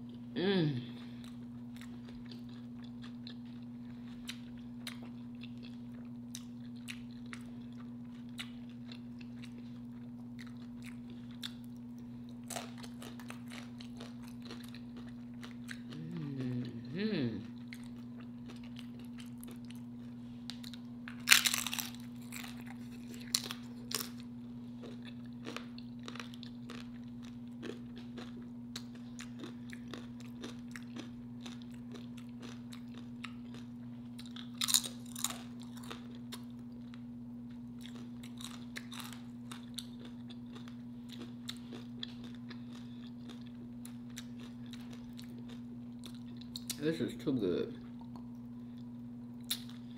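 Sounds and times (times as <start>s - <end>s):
chewing food: 1.0s - 46.9s, 47.7s - 49.9s
crunching chips: 1.4s - 16.1s, 17.4s - 37.0s, 37.8s - 46.8s.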